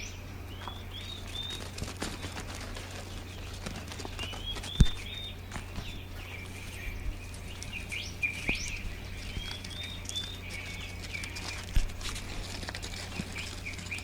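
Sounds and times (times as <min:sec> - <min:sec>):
low steady hum: 0:00.0 - 0:14.0
small birds chirping: 0:00.0 - 0:14.0.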